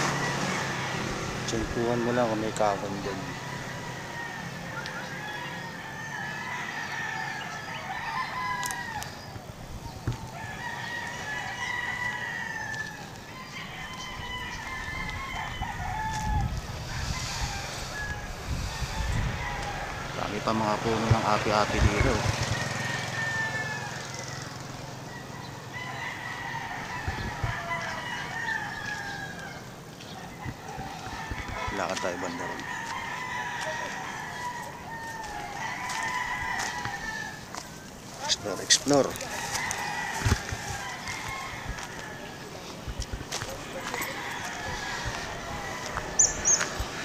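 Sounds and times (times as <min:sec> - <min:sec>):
roosters crowing: 0:00.0 - 0:47.0.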